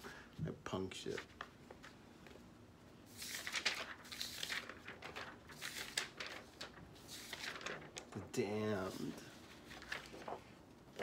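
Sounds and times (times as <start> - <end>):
paper and card rustling: 0.9 - 2.4, 3.0 - 11.0.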